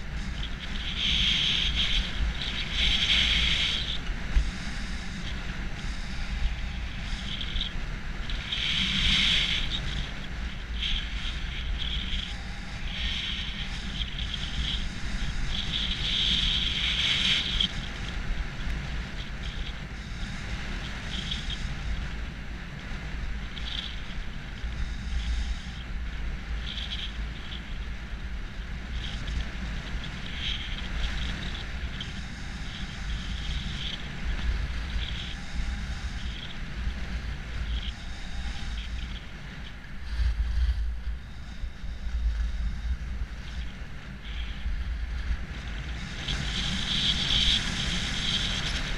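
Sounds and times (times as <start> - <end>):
wind noise on microphone: 0.0 - 48.9.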